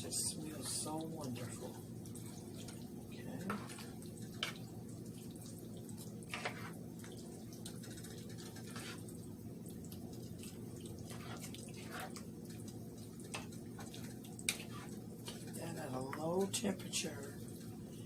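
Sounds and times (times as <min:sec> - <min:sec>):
sauce simmering in a pan: 0:00.2 - 0:16.6, 0:17.2 - 0:18.0.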